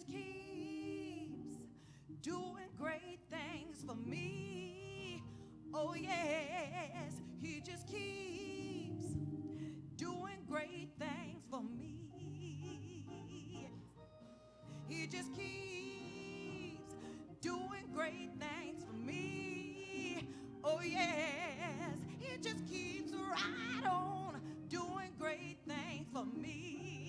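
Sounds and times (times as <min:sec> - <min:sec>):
held accompaniment chords: 0:00.0 - 0:27.0
person singing gospel with vibrato: 0:00.0 - 0:27.0.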